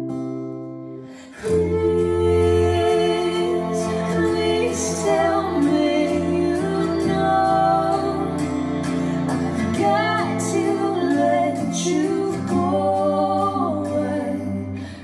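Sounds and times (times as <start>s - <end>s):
song over loudspeakers: 1.4s - 15.0s.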